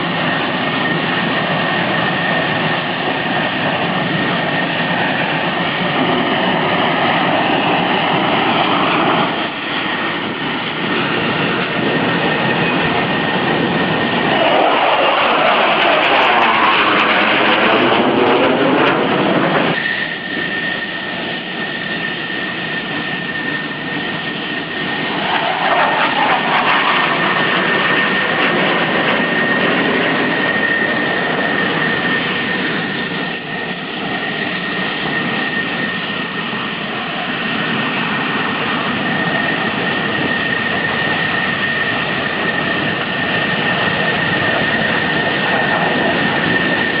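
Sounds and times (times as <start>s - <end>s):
high jet whine: 0.0s - 47.0s
jet engine roar: 0.0s - 47.0s.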